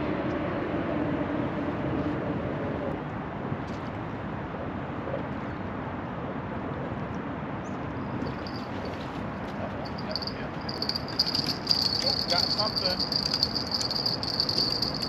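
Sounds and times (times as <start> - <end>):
steady outdoor noise: 0.0 - 15.0.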